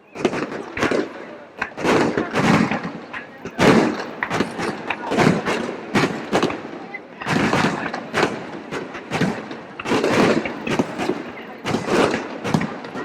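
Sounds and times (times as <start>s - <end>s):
fireworks shells bursting: 0.0s - 13.0s.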